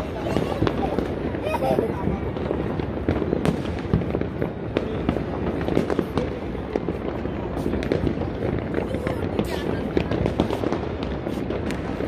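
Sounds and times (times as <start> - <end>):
distant fireworks crackling: 0.0 - 12.0
sharp firework bangs: 2.1 - 12.0.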